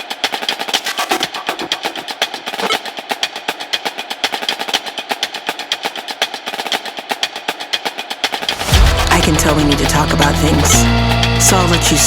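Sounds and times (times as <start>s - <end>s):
rapid percussive clicking: 0.0s - 12.0s.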